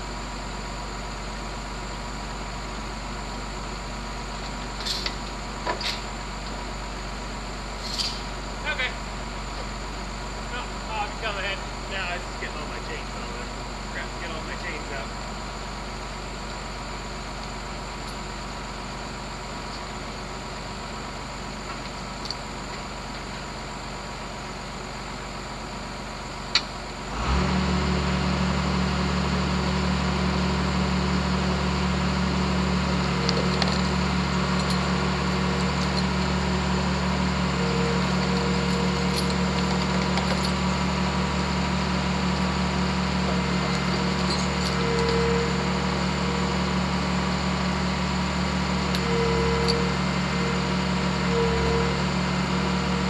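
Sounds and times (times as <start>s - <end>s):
quiet engine hum: 0.0s - 27.3s, 28.0s - 53.0s
diesel engine starting and idling: 0.0s - 53.0s.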